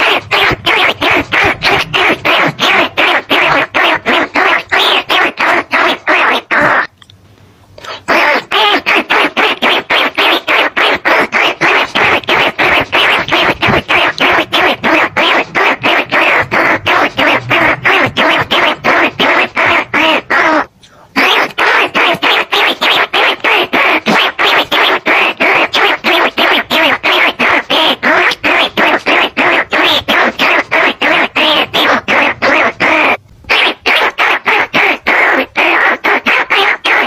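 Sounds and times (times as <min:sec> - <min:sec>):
rapid rat calls: 0:00.0 - 0:06.9, 0:07.8 - 0:37.0.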